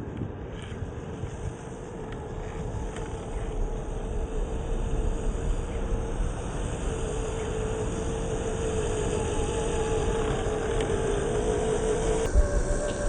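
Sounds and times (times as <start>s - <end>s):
constant rushing noise: 0.0s - 13.0s
electric motor whining: 2.0s - 13.0s.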